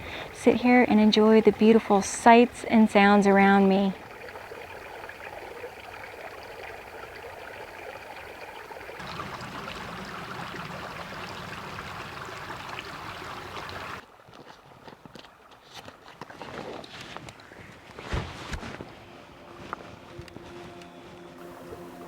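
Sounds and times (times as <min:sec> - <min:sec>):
creek water running over rocks: 0:00.0 - 0:18.6, 0:21.4 - 0:22.0.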